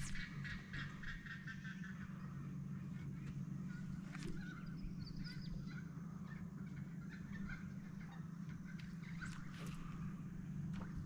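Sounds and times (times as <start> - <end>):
birds chirping: 0.0 - 11.0
electric boat motor humming: 0.0 - 11.0.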